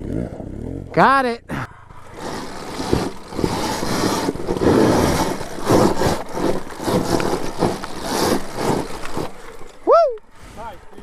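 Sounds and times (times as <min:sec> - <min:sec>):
dirt bike engine on rocky trail: 0:00.0 - 0:11.0.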